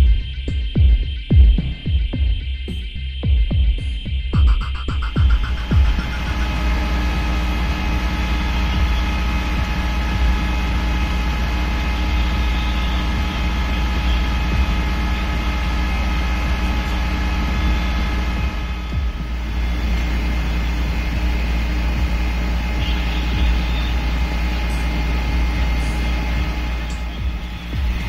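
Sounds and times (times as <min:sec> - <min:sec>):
diesel engine rumbling: 0:00.0 - 0:28.0
high whine: 0:00.0 - 0:28.0.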